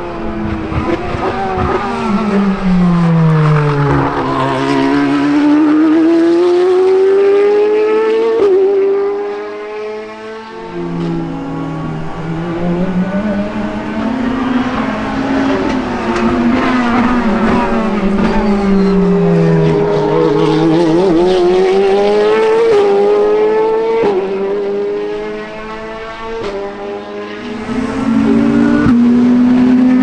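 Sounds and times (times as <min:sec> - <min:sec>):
race car engine at speed: 0:00.0 - 0:30.0.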